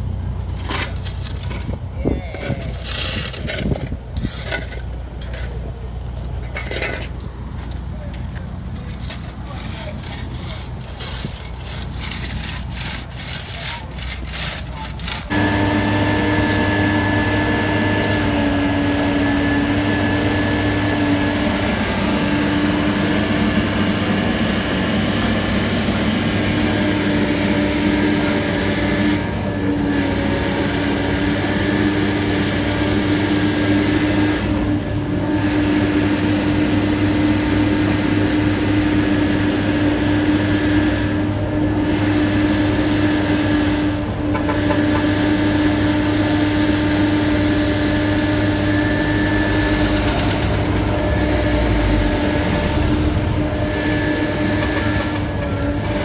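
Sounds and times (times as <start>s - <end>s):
heavy machinery engine humming: 4.0s - 56.0s.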